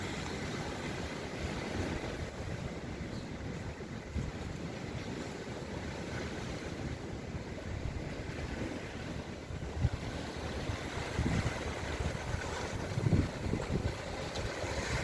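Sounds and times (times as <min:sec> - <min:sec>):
sea waves washing: 0:00.0 - 0:15.0
wind rumbling on microphone: 0:00.0 - 0:15.0.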